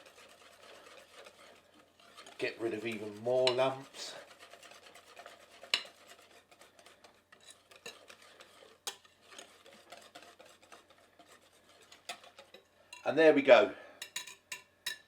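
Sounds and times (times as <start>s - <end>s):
whisk clinking against bowl: 0.0s - 13.2s, 14.0s - 15.0s
whisk scraping bowl: 0.0s - 15.0s.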